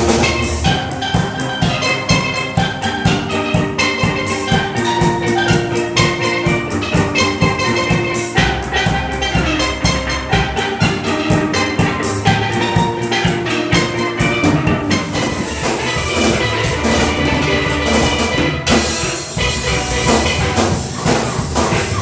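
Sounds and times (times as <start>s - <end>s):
driving drum beat: 0.0s - 22.0s
steelpans ringing: 0.0s - 22.0s.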